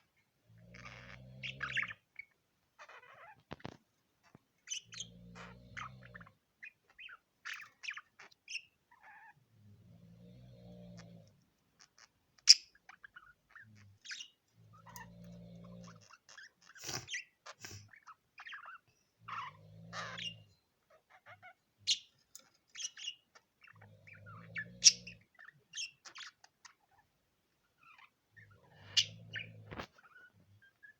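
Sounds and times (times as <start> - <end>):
budgerigar chirping and chattering: 0.7 - 9.4, 11.8 - 27.1, 27.8 - 30.9.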